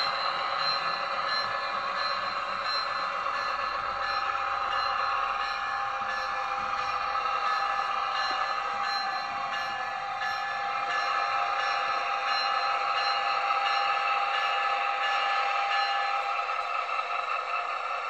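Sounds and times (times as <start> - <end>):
model locomotive whine: 0.0 - 18.0.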